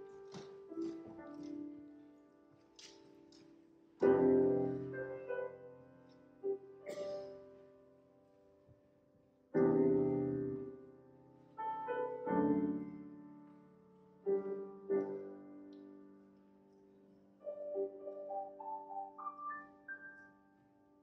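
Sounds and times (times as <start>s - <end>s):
grand piano slow chords: 0.0s - 21.0s.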